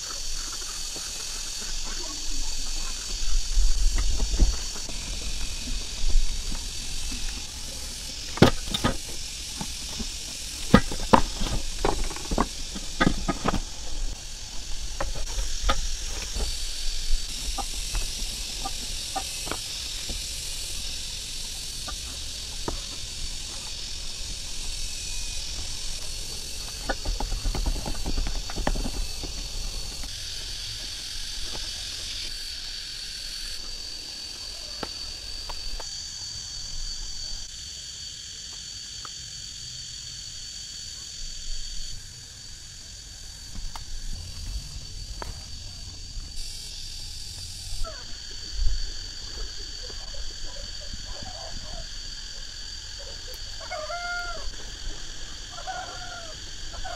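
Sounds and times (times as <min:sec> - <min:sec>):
steady high hiss: 0:00.0 - 0:56.9.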